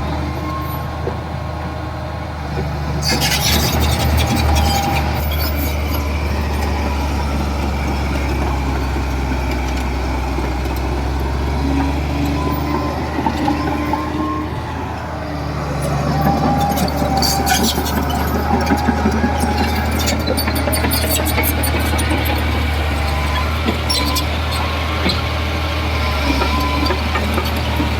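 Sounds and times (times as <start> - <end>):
bulldozer diesel engine droning: 0.0 - 27.9.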